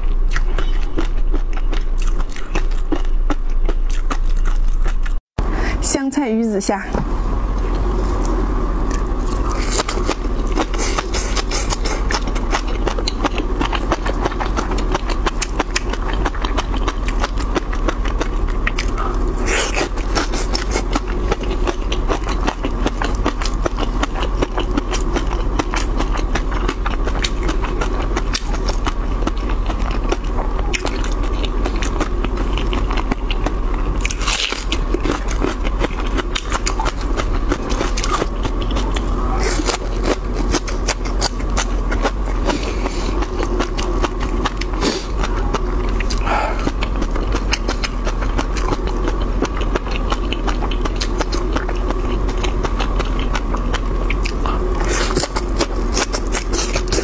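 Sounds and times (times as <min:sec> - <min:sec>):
wet chewing clicks and smacks: 0:00.0 - 0:05.2, 0:07.6 - 0:57.0
steady hum: 0:00.0 - 0:57.0.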